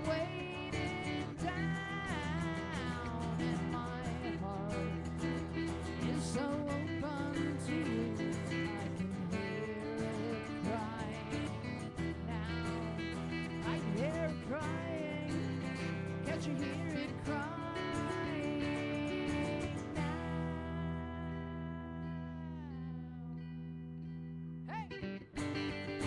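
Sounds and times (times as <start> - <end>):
acoustic guitars strumming: 0.0 - 26.0.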